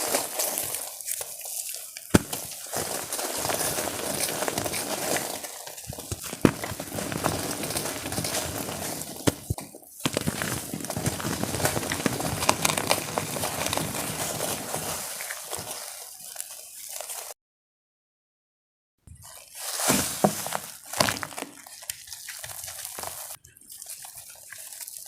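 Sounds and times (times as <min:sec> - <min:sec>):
chalk blocks crunching: 0:00.0 - 0:17.3, 0:19.2 - 0:25.0.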